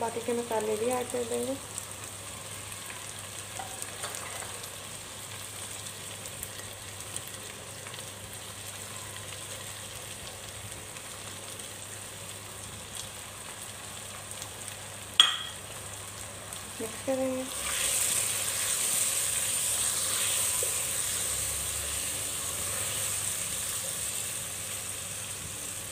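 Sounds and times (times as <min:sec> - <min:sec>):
onions sizzling in hot oil: 0:00.0 - 0:25.9.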